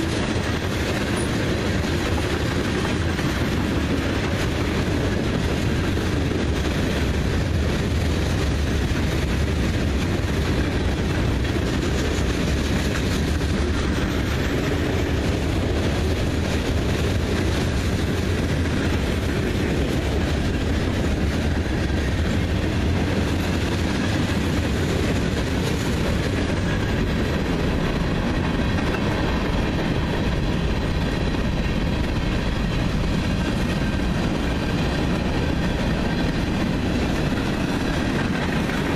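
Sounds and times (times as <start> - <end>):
freight cars rolling on rails: 0.0 - 38.9.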